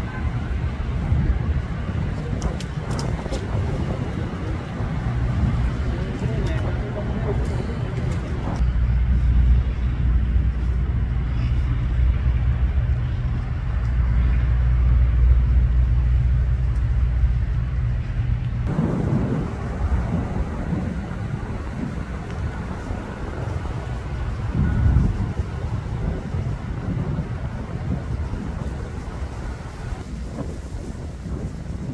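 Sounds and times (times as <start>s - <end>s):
idling vehicles rumble: 0.0s - 31.8s
wind on microphone: 0.0s - 31.9s.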